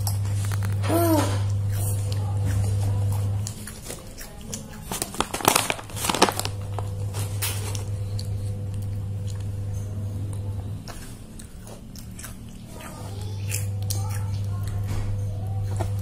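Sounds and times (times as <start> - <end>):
chewing crunchy snacks: 0.0 - 16.0
steady low hum: 0.0 - 16.0.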